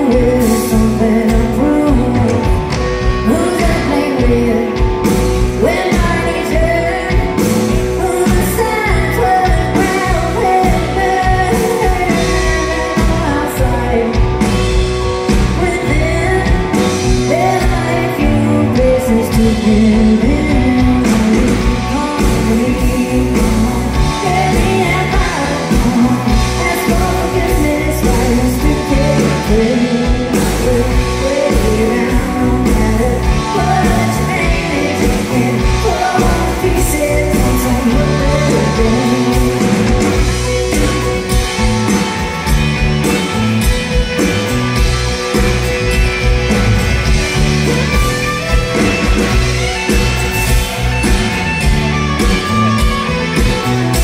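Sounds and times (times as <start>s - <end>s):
drums: 0.0s - 54.0s
electric guitars: 0.0s - 54.0s
woman singing lead: 0.0s - 54.0s.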